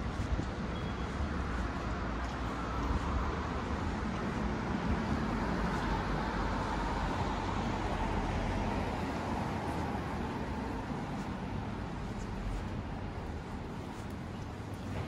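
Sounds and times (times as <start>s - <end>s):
street traffic with low hum: 0.0s - 15.0s.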